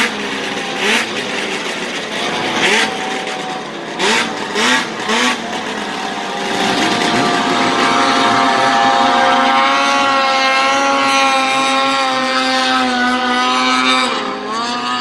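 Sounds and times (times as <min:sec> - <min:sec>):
snowmobile engine at high revs: 0:00.0 - 0:15.0.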